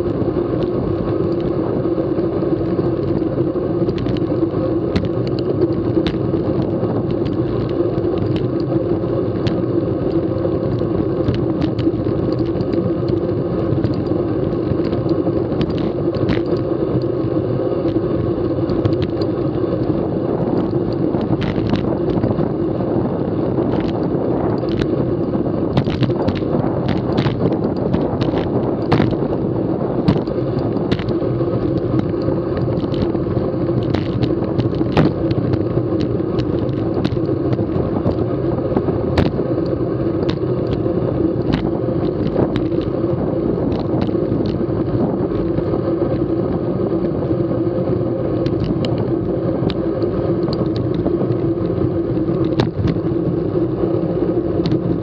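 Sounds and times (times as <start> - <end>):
bicycle ticks and rattles: 0.0 - 55.0
wind rush on microphone: 0.0 - 55.0
tyre noise on concrete: 3.6 - 55.0.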